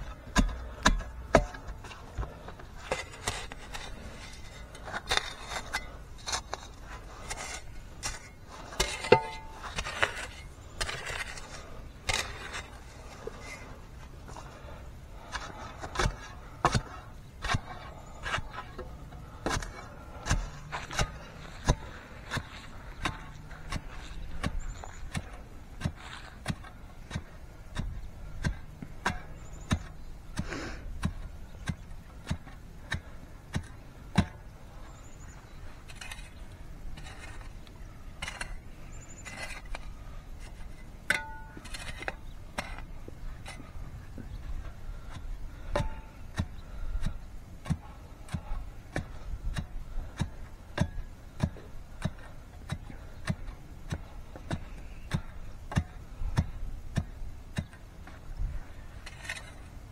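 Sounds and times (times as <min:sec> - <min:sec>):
shovel tamping soil: 0:00.0 - 0:59.9.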